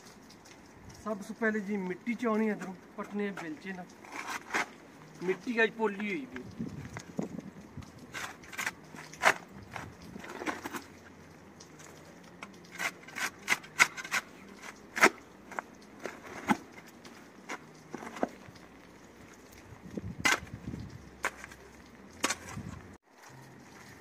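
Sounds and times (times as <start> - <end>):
spade digging wet soil: 0.0 - 24.0.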